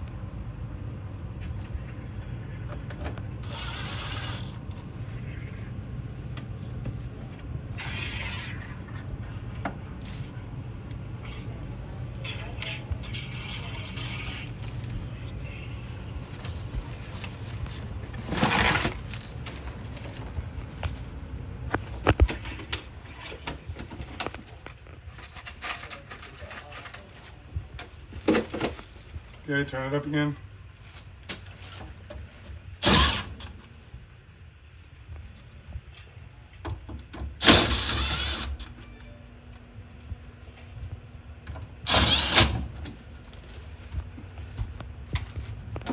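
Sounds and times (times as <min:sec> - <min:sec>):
furnace humming: 0:00.0 - 0:45.9.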